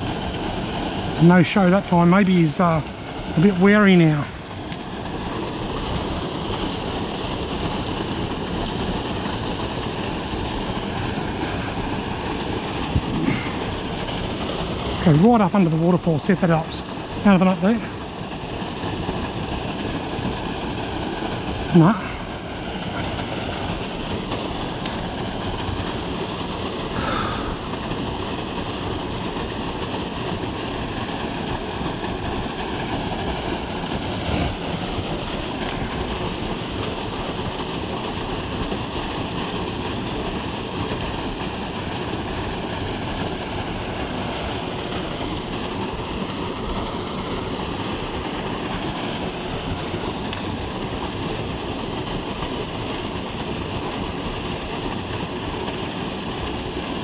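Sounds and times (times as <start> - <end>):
waterfall pouring into pool: 0.0 - 57.0.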